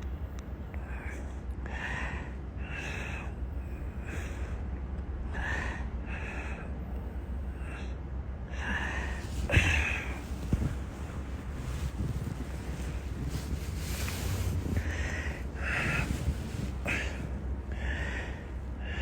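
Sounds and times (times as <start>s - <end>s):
low hum: 0.0s - 19.0s
man breathing heavily: 0.5s - 19.0s.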